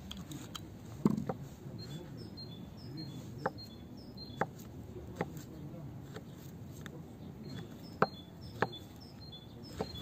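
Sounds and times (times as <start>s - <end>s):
birds chirping faintly: 0.2s - 10.0s.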